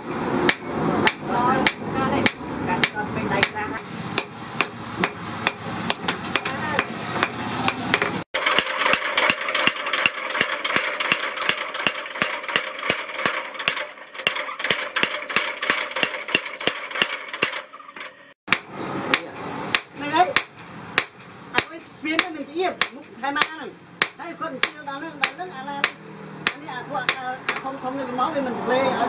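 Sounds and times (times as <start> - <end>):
power hammer pounding metal: 0.0 - 27.6.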